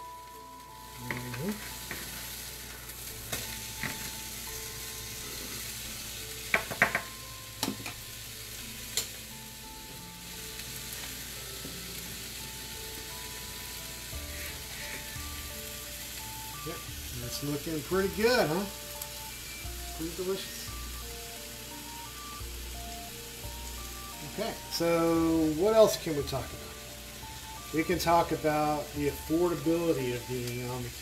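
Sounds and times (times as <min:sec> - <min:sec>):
meat sizzling in a frying pan: 0:00.0 - 0:31.0.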